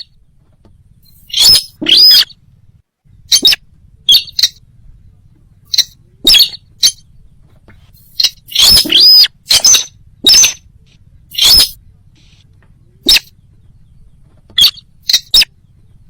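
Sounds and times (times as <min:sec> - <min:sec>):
harsh bird calls: 0:00.0 - 0:02.5, 0:03.1 - 0:16.0.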